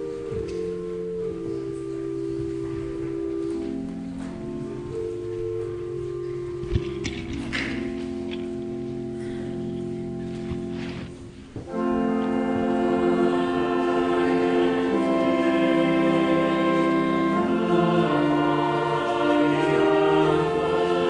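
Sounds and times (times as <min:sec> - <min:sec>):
church organ chords: 0:00.0 - 0:21.0.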